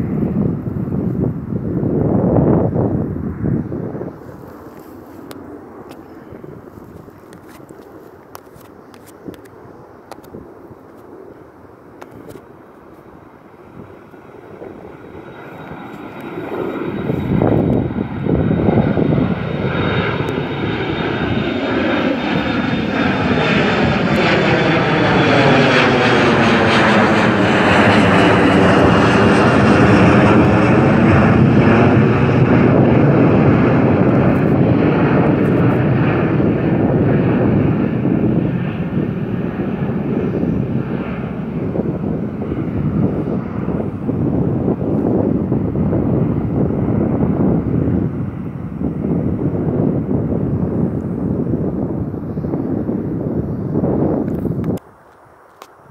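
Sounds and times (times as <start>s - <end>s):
high jet whine: 0.0s - 55.9s
jet airliner engine roar: 0.0s - 55.9s.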